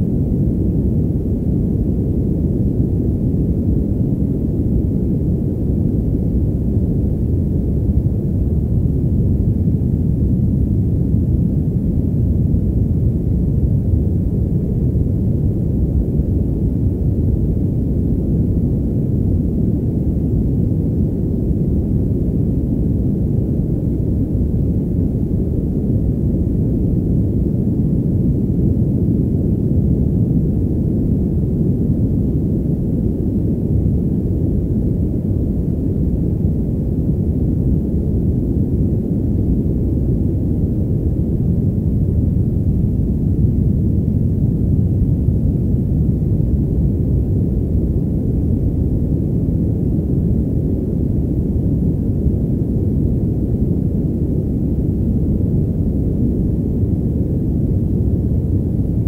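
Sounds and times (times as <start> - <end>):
muffled white noise: 0.0 - 59.0.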